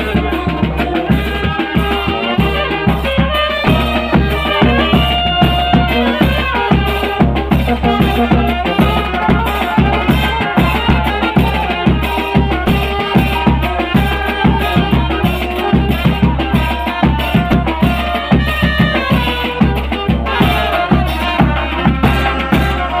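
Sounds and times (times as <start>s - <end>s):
band playing held tones: 0.0s - 23.0s
quick drum beat: 0.0s - 23.0s.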